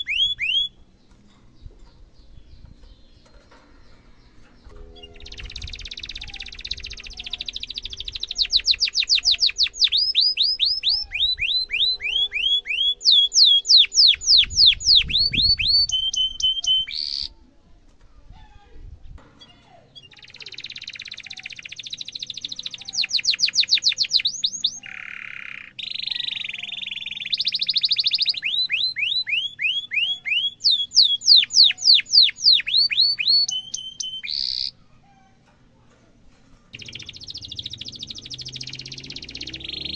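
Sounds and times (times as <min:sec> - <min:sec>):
canary singing trills: 0:00.0 - 0:17.4, 0:19.4 - 0:35.6, 0:36.5 - 0:39.9.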